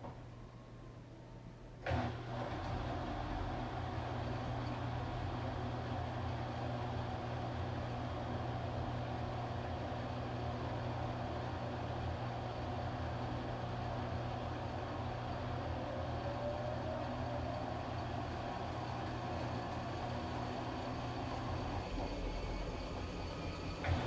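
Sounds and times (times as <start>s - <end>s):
washing machine running: 1.9s - 24.0s.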